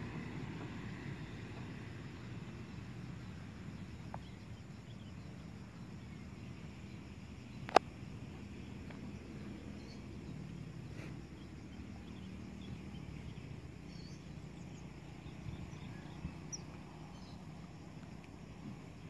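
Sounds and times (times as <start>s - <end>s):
distant airliner rumble: 0.0s - 19.0s.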